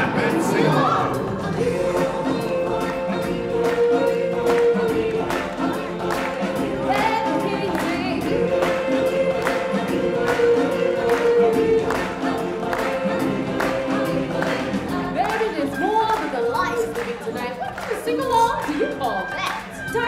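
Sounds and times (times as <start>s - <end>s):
choir singing: 0.0s - 16.2s.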